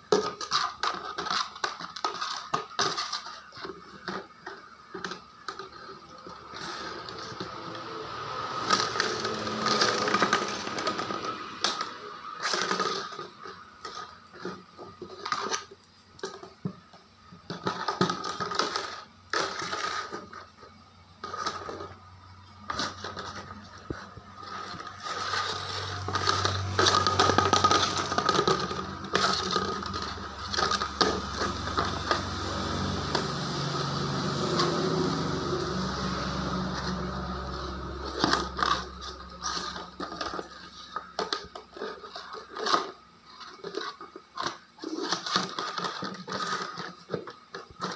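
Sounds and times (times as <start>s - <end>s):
plastic bucket scraping on concrete: 0.0s - 47.9s
low steady hum: 3.6s - 44.2s.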